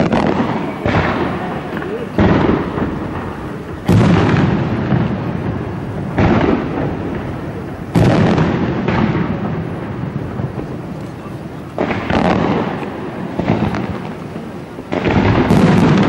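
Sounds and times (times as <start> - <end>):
firework booms with rumble: 0.0 - 16.0.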